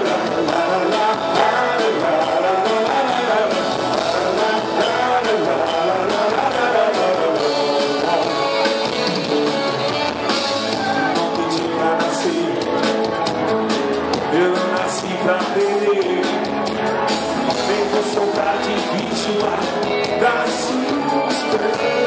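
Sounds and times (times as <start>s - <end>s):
man singing: 0.0s - 13.1s, 14.1s - 22.0s
bass guitar: 0.0s - 22.0s
drums: 0.0s - 22.0s
electric guitars: 0.0s - 22.0s.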